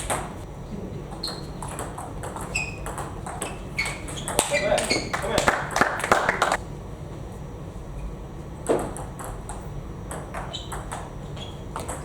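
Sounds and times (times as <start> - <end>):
low hall hum: 0.0 - 12.0.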